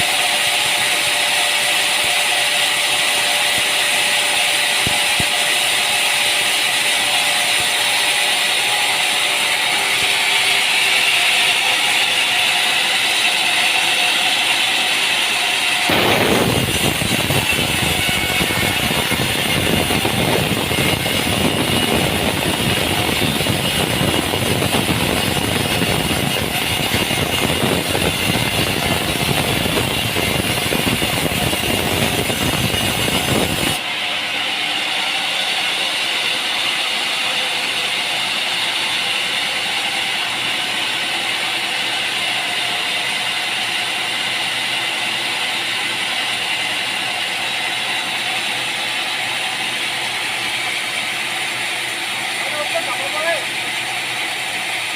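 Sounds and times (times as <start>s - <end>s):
machine running: 0.0s - 54.9s
thinner machine sound: 0.0s - 54.9s.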